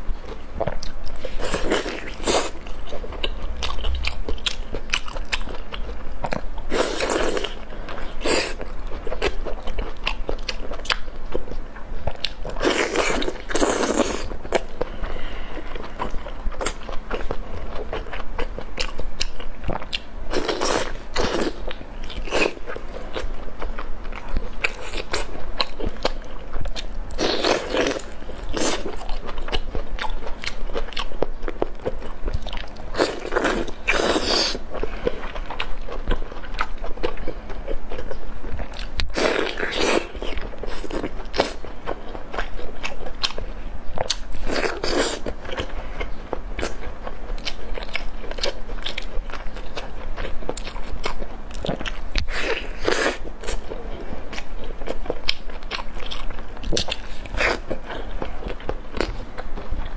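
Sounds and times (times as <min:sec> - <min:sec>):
biting and chewing: 0:00.2 - 0:59.9.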